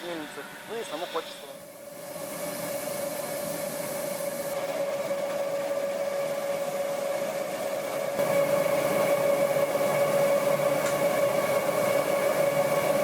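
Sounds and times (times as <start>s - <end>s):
grain mill whirring and humming: 0.0s - 13.0s.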